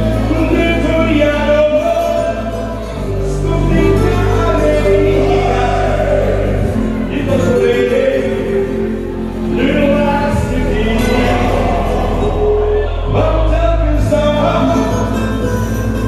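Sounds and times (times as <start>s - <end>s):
loud music with bass line: 0.0s - 16.0s
man singing: 0.0s - 16.0s.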